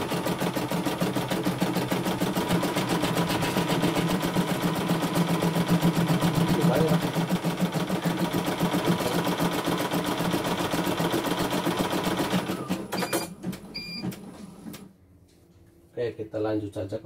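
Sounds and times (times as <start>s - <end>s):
embroidery machine stitching: 0.0s - 13.7s.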